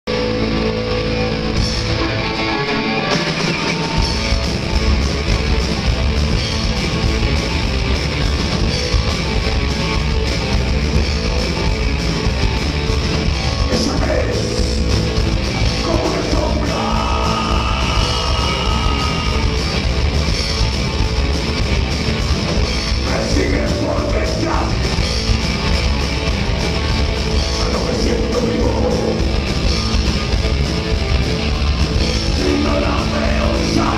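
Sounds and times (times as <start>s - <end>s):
rock band playing: 0.1s - 33.9s.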